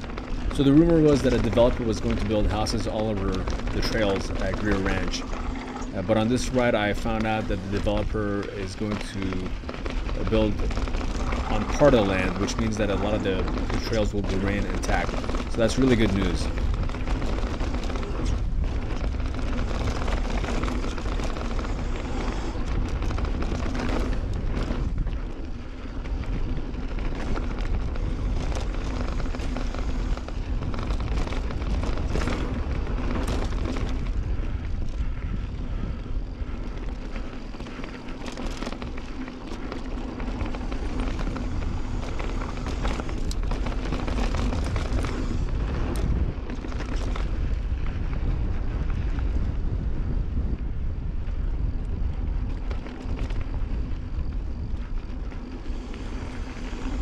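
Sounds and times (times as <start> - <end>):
tyres rumbling over dirt: 0.0 - 49.8
bike knocking and rattling: 0.0 - 57.0
wind buffeting microphone: 0.0 - 57.0.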